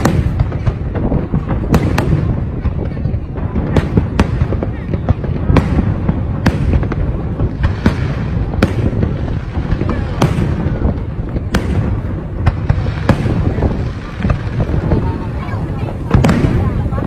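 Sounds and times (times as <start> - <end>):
low rumble of explosions: 0.0 - 17.0.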